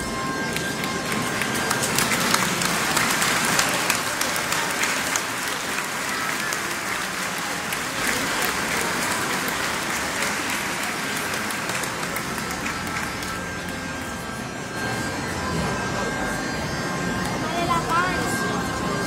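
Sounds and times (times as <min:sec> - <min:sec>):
crowd applauding: 0:00.0 - 0:16.6.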